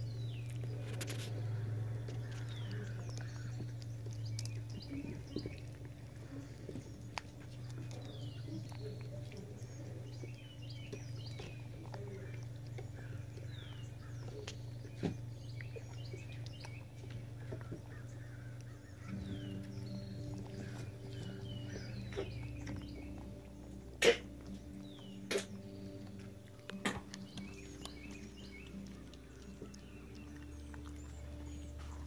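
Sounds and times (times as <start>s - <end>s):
birds chirping: 0.0s - 32.0s
steady low hum: 0.0s - 32.0s.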